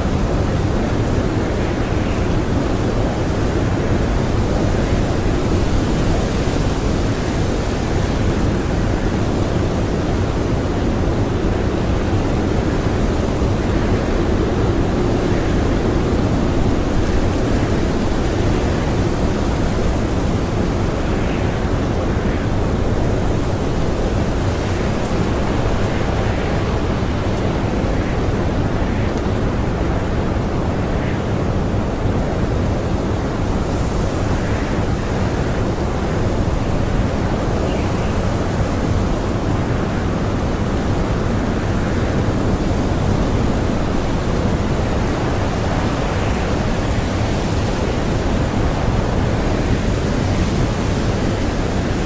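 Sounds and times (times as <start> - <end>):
blizzard wind blowing: 0.0 - 52.0.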